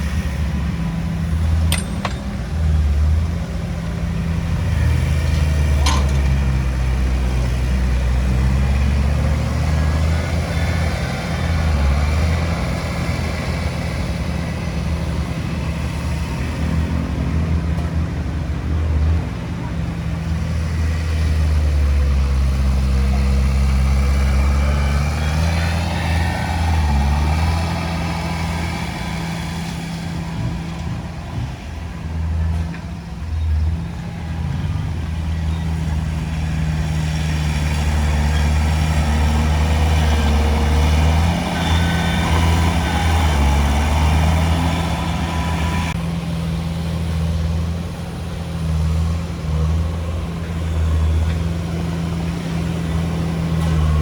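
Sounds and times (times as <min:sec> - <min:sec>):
heavy diesel engine working: 0:00.0 - 0:54.0.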